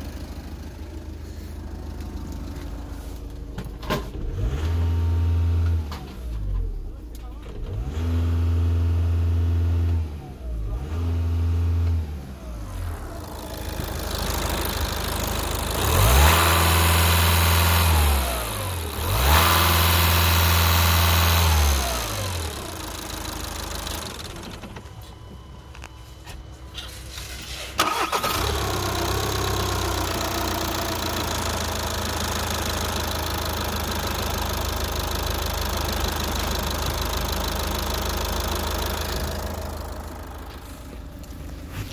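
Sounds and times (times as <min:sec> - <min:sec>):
diesel engine revving: 0:04.1 - 0:06.8, 0:07.5 - 0:24.6, 0:27.7 - 0:41.9.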